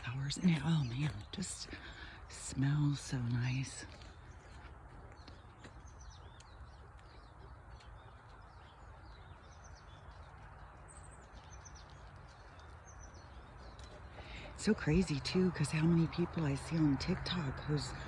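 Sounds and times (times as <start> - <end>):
low outdoor hum: 0.0 - 18.0
small birds chirping: 0.0 - 18.0.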